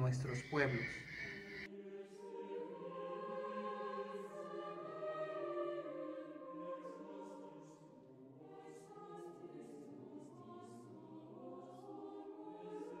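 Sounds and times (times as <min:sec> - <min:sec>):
choir singing a slow hymn: 0:00.0 - 0:13.0.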